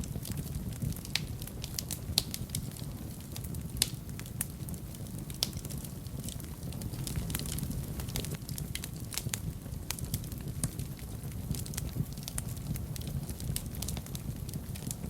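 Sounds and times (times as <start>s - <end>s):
fire crackling and popping: 0.0s - 15.0s
wood fire burning: 0.0s - 15.0s.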